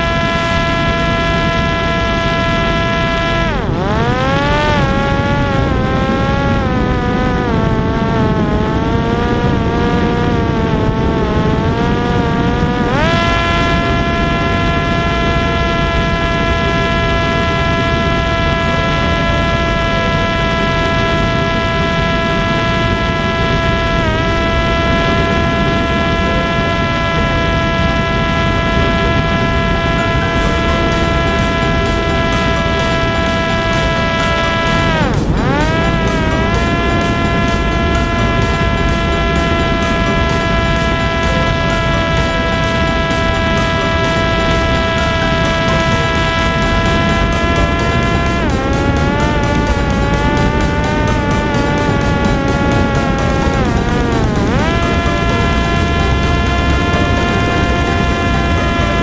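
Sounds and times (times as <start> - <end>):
electric motor and propeller whining: 0.0 - 59.0
heavy wind rush: 0.0 - 59.0.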